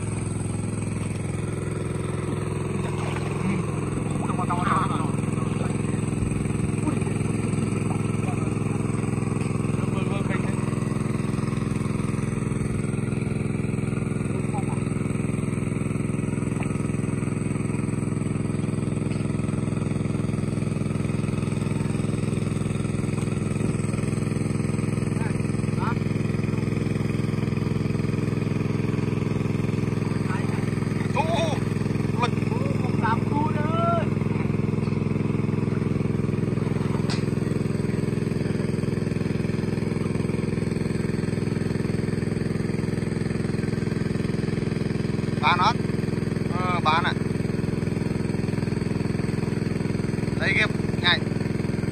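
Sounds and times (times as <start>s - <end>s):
water pump engine running: 0.0s - 51.9s.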